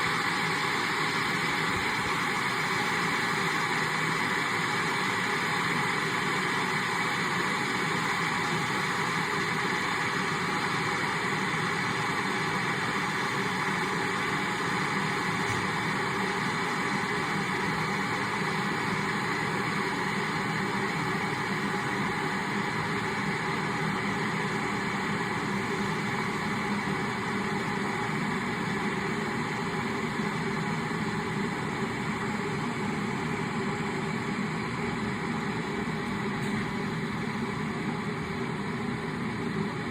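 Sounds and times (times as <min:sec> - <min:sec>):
kettle boiling: 0:00.0 - 0:39.9.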